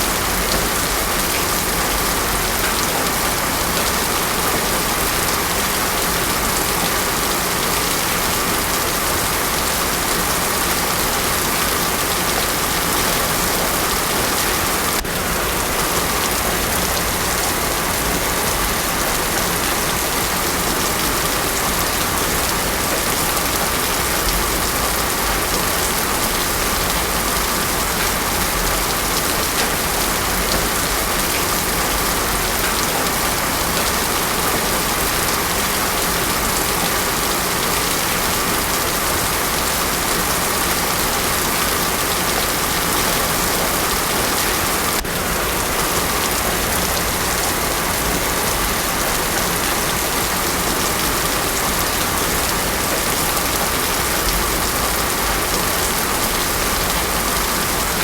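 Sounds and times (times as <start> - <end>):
heavy rain on a paved road: 0.0 - 58.0.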